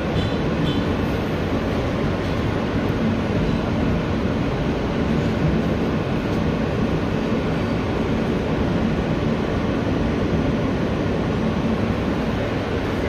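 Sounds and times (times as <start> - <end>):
subway car wheels rumbling on rails: 0.0 - 13.0.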